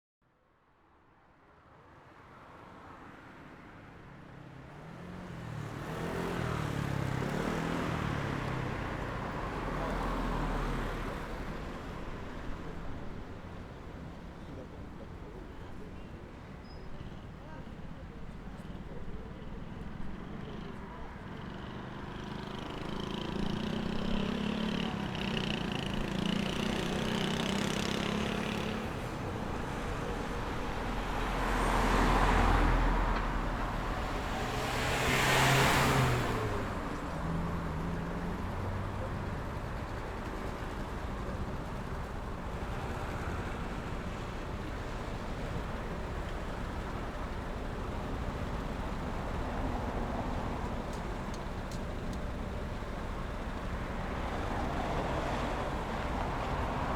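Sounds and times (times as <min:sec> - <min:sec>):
city street traffic: 0:00.6 - 0:56.9
vehicles passing close: 0:02.6 - 0:56.9.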